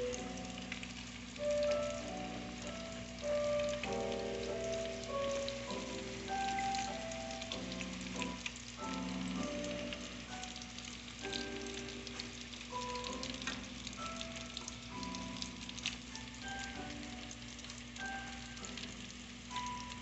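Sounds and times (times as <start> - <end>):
background music of held chords: 0.0 - 20.0
food frying in hot oil: 0.0 - 20.0.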